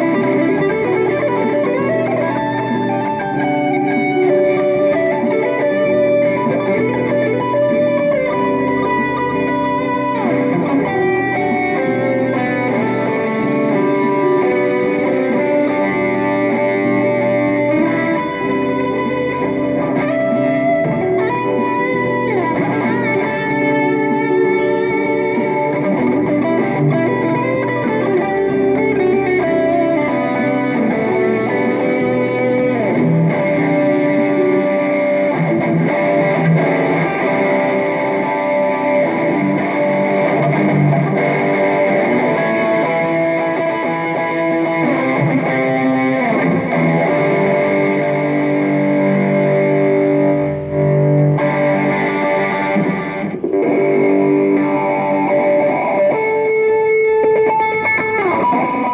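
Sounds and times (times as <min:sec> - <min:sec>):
electric guitar playing: 0:00.0 - 0:58.9.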